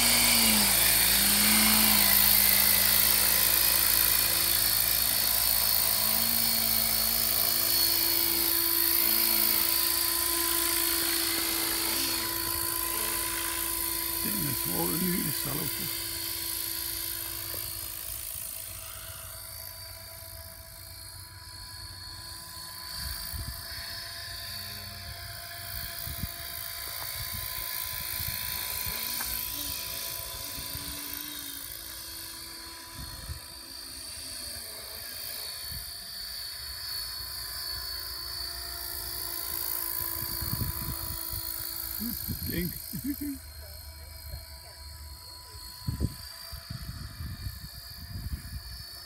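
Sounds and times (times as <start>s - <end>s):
model helicopter rotor whine: 0.0s - 49.0s.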